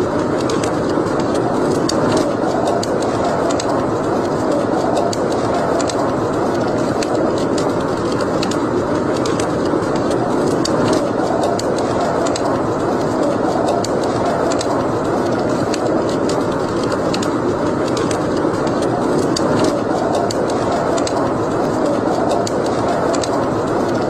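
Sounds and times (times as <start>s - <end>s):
wood fire crackling in fireplace: 0.0s - 24.0s.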